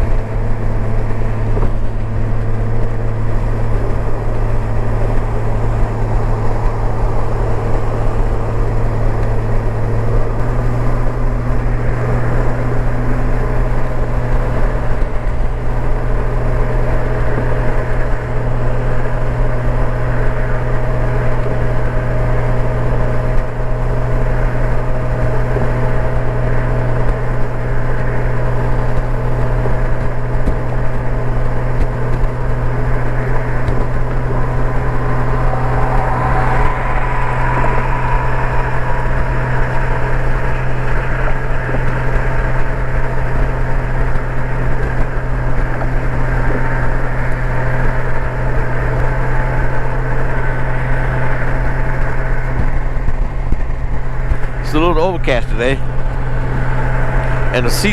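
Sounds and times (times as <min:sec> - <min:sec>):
motorcycle engine cruising: 0:00.0 - 0:54.7
wind and road noise: 0:00.0 - 0:57.9.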